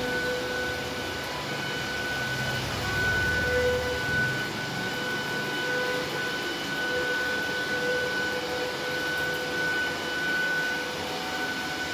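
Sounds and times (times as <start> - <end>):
machine whining: 0.0 - 11.9.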